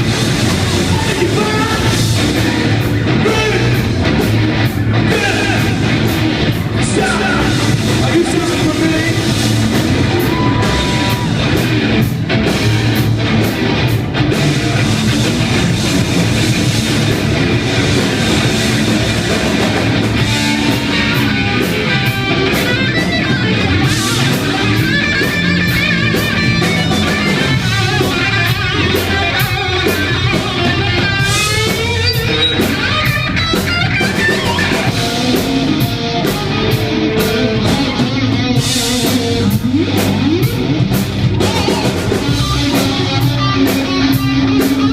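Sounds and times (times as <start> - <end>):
distorted electric guitars: 0.0 - 44.9
drum kit: 0.0 - 44.9.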